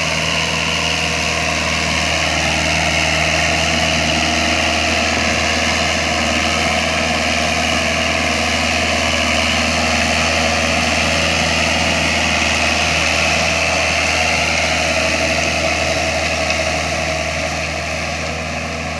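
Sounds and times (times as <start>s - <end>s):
tractor diesel engine idling: 0.0s - 18.9s.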